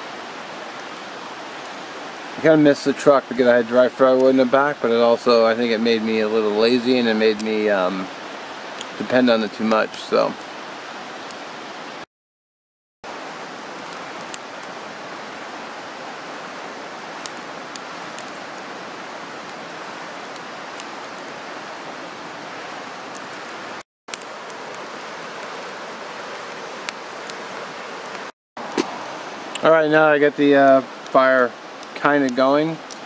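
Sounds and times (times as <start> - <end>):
campfire crackling: 0.0 - 12.0, 13.0 - 33.0.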